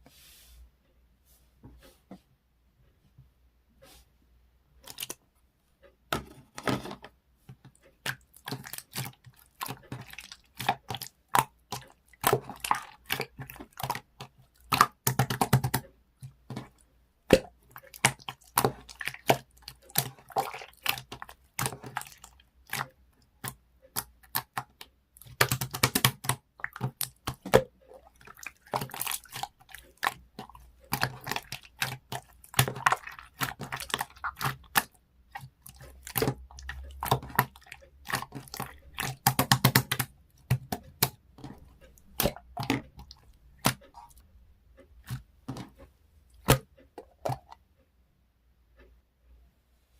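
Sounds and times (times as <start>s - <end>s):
slime squishing with sticky clicks: 4.8s - 5.2s, 6.1s - 47.7s.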